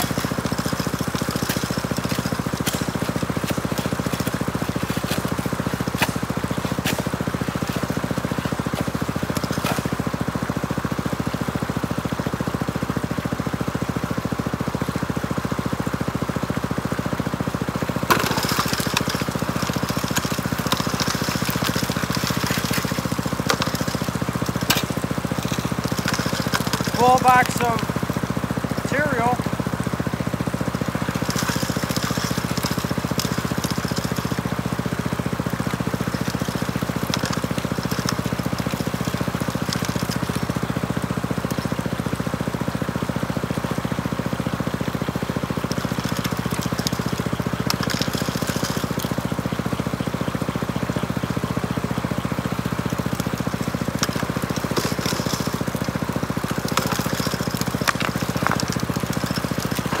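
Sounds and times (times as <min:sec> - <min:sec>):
gravel and rocks clattering: 0:00.0 - 0:11.0, 0:17.8 - 0:43.8, 0:44.9 - 0:50.1, 0:50.7 - 1:00.0
water pump engine running: 0:00.0 - 1:00.0.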